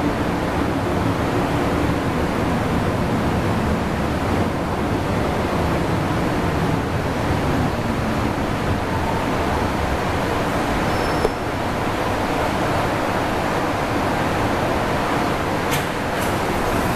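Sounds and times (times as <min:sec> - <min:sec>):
train wheels rushing rumble: 0:00.0 - 0:16.9.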